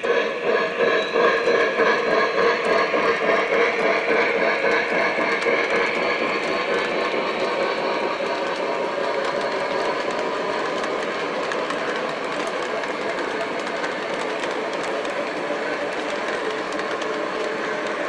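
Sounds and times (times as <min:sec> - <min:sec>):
model train wheels rumbling: 0:00.0 - 0:18.0.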